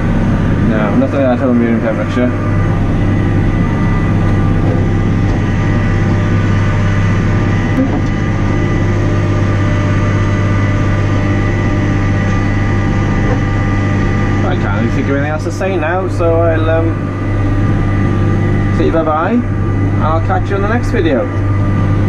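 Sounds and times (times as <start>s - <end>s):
thin steady whine: 0.0s - 22.0s
tractor diesel engine drone: 0.0s - 22.0s.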